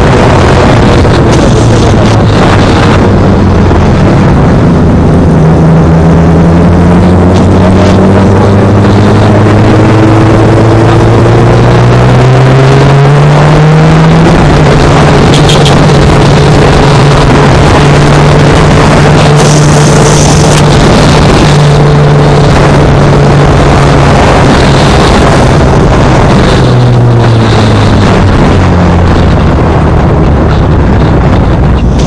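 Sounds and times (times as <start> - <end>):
motorcycle engine running: 0.0 - 32.0
wind rushing: 0.0 - 32.0.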